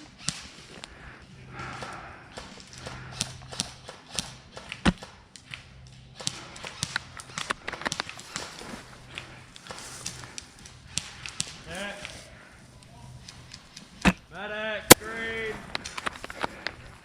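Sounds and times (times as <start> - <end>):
airsoft gunfire clicks: 0.0 - 12.2, 14.9 - 17.0
bb pellet impacts: 0.0 - 14.3, 14.9 - 17.0.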